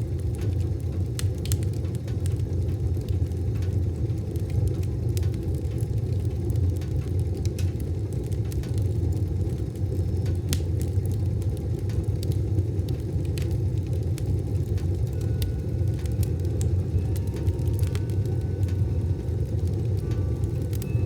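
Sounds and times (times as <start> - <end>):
fire crackles and pops: 0.0 - 21.0
wood stove fire rumbling: 0.0 - 21.0.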